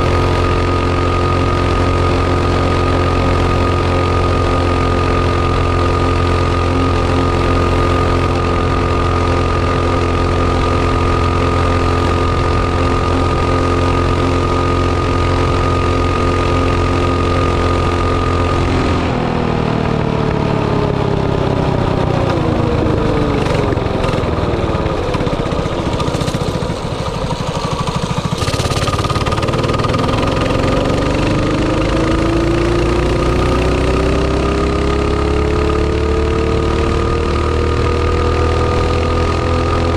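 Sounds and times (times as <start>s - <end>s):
mini bike engine: 0.0s - 39.9s.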